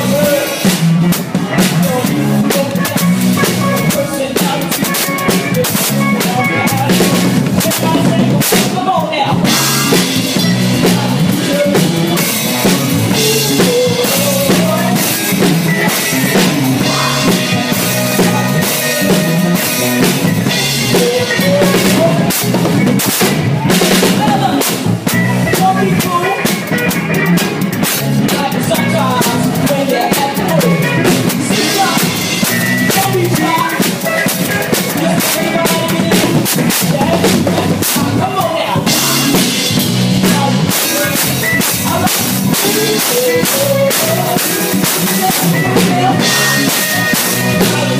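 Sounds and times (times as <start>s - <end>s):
live band instruments and voice: 0.0s - 47.9s.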